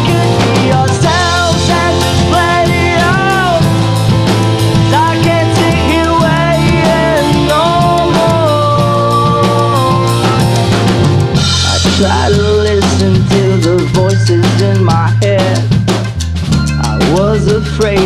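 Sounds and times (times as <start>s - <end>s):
man singing: 0.0s - 4.1s, 4.7s - 10.8s, 11.6s - 15.8s, 16.8s - 18.0s
pop-rock band playing live: 0.0s - 18.0s.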